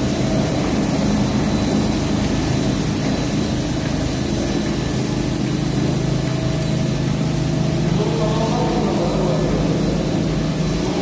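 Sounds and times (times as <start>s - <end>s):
carpet washing machine humming: 0.0s - 11.0s.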